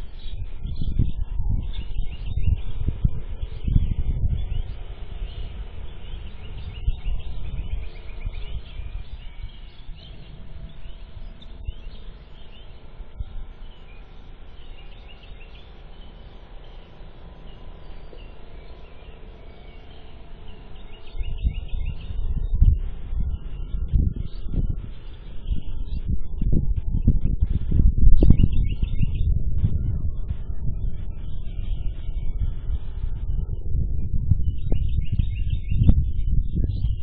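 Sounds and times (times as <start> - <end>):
birds chirping: 0.0 - 37.0
low uneven rumble: 0.0 - 37.0.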